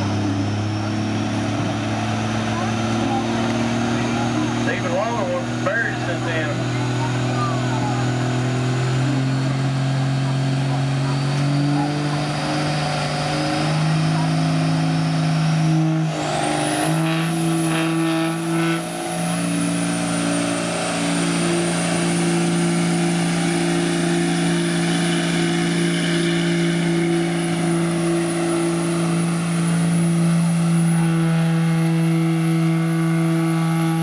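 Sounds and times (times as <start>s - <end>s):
diesel truck engine at full throttle: 0.0s - 34.0s.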